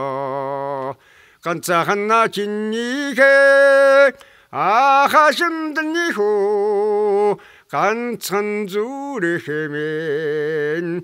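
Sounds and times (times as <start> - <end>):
old man singing unaccompanied: 0.0 - 11.0.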